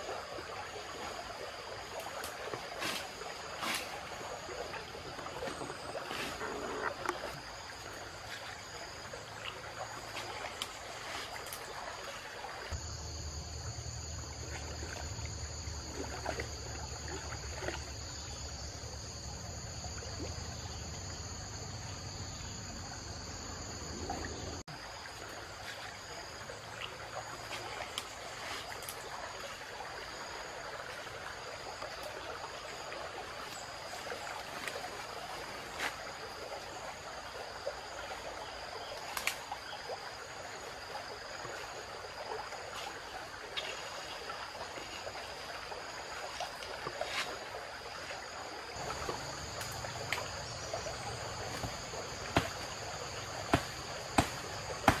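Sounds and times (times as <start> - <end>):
splashes of wading: 0.0 - 12.8, 14.2 - 18.3, 24.0 - 55.0
insects chorus: 0.0 - 55.0
river water trickling: 0.0 - 55.0.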